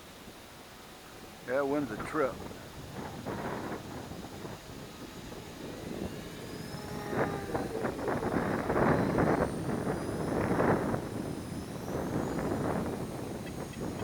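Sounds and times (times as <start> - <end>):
electric motor whine: 0.0 - 14.0
wind gusting across microphone: 0.0 - 14.0.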